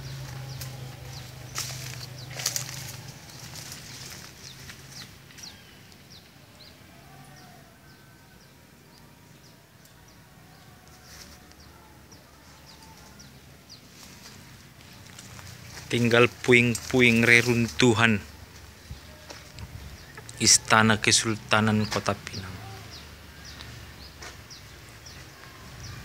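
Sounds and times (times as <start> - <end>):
rustles or footsteps: 0.0 - 6.2, 10.8 - 26.0
birds chirping: 0.0 - 26.0.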